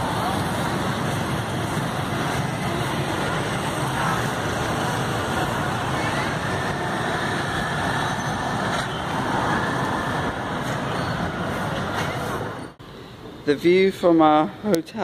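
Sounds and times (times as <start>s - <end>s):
motorbike passing: 0.0s - 12.6s
street traffic: 0.0s - 15.0s.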